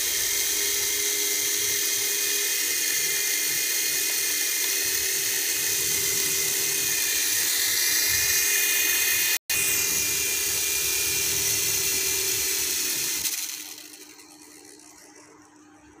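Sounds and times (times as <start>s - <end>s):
toy helicopter motors whining: 0.0s - 16.0s.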